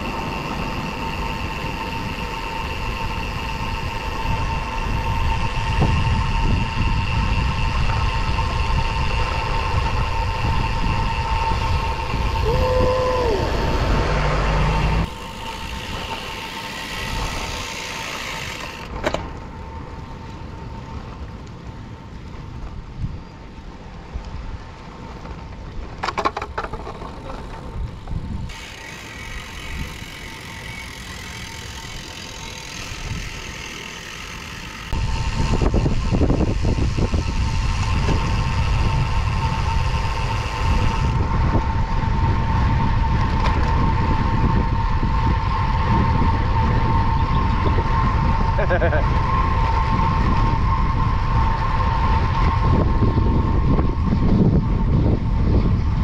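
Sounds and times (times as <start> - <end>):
tyre noise on concrete road: 0.0 - 56.0
wind buffeting microphone: 0.0 - 56.0.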